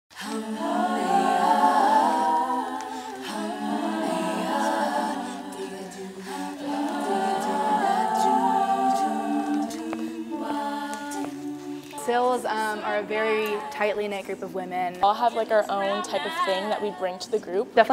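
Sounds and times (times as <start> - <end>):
women singing a cappella: 0.1 - 17.9.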